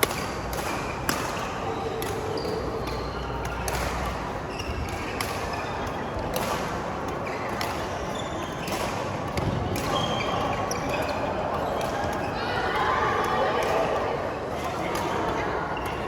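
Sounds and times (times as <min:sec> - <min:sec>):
shoes squeaking on court floor: 0:00.0 - 0:12.8, 0:14.6 - 0:16.0
racket striking shuttlecock: 0:00.0 - 0:16.0.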